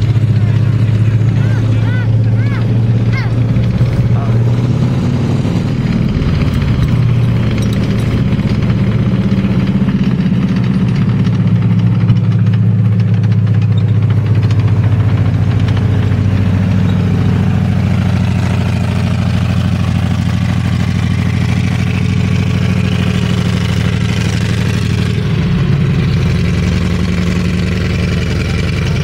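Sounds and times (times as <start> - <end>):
tank engine running: 0.0 - 29.0.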